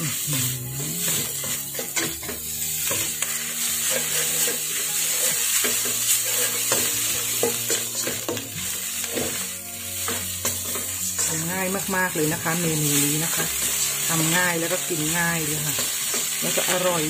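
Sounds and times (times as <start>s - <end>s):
food sizzling: 0.0s - 17.0s
spatula scraping a wok: 0.0s - 17.0s.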